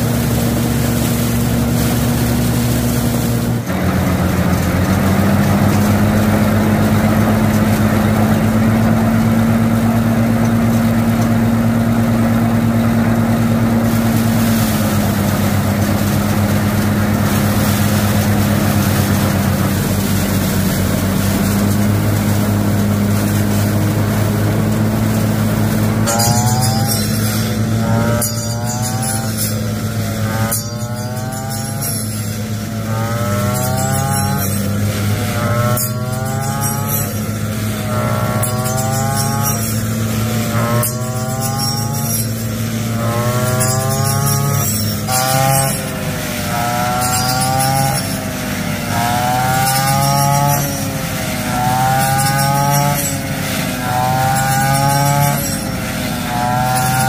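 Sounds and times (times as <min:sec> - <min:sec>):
brush cutter engine: 0:00.0 - 0:57.0
rice thresher motor humming: 0:00.0 - 0:57.0.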